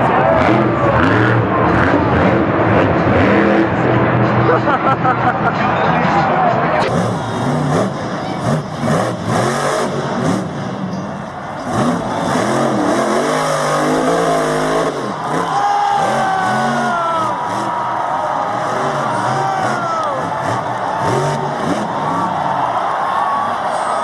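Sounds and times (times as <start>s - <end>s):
monster truck engine revving: 0.0s - 5.5s, 6.8s - 24.0s.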